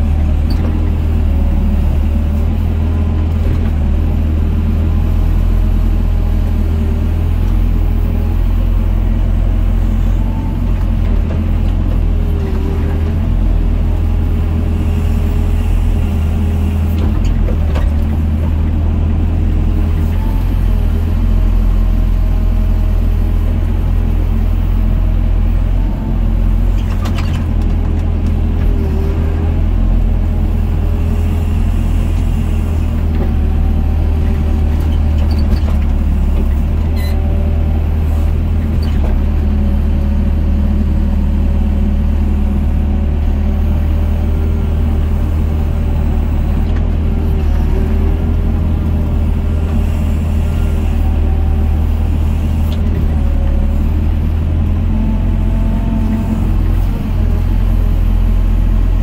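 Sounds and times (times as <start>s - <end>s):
diesel excavator engine running: 0.0s - 59.0s.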